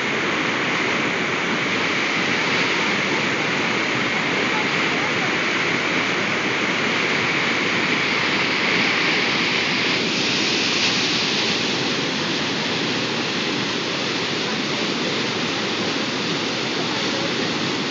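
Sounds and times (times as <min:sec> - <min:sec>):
river rushing over dam: 0:00.0 - 0:17.9.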